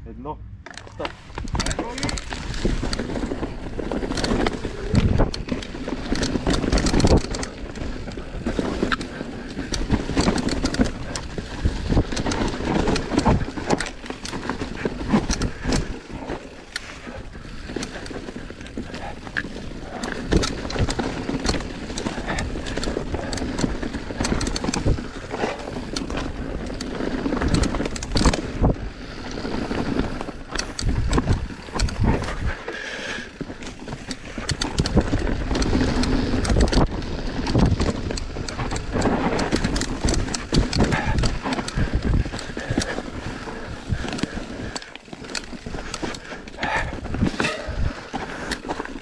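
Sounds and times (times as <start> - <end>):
bike rattling over bumps: 0.7 - 49.0
tyres on dirt and leaves: 0.7 - 49.0
wind noise on microphone: 0.9 - 32.7, 33.4 - 49.0.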